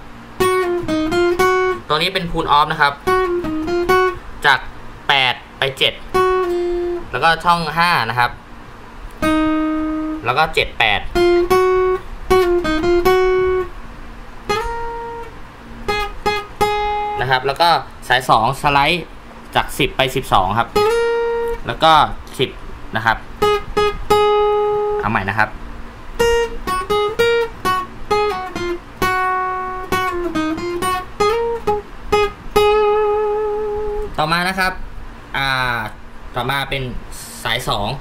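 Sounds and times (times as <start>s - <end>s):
acoustic guitar picking notes: 0.0s - 34.2s.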